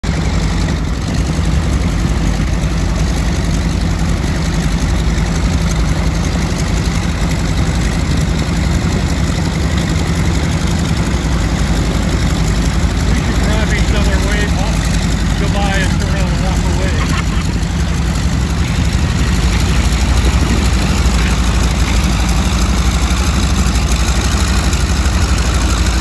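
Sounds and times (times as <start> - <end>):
radial engine idling: 0.0 - 26.0.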